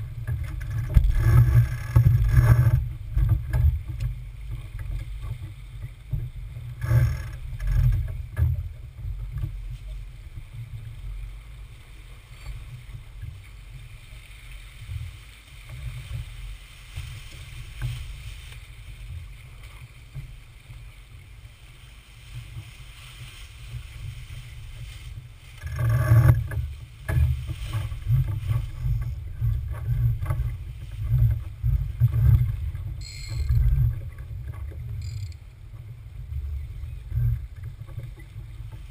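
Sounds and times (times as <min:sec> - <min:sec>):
faint water wash: 0:00.0 - 0:38.9
wind rumbling on microphone: 0:00.0 - 0:38.9.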